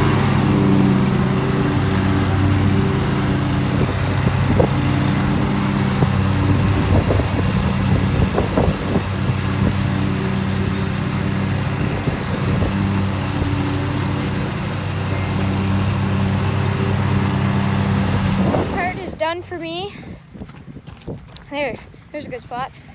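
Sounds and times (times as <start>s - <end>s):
riding lawn mower engine: 0.0s - 19.8s.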